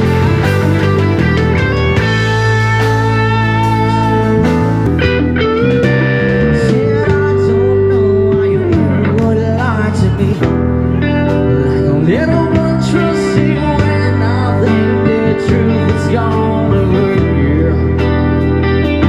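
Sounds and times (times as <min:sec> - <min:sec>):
electric guitar bending lead lines: 0:00.0 - 0:19.0
live band music: 0:00.0 - 0:19.0.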